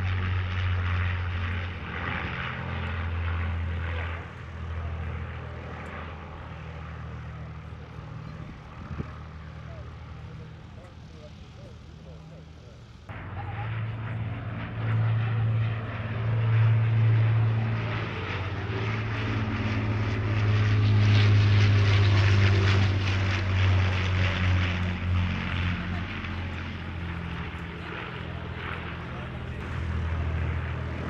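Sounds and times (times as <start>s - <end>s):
propeller aircraft engines droning: 0.0s - 31.0s.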